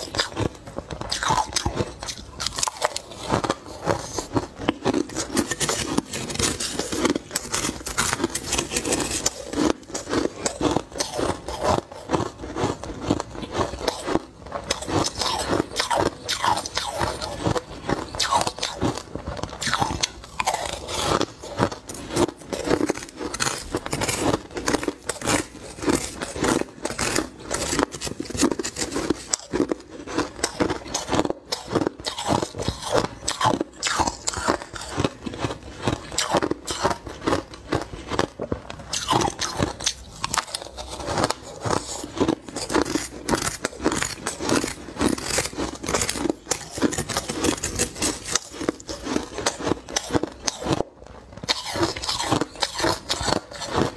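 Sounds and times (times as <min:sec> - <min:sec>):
person crunching ice: 0:00.0 - 0:53.9.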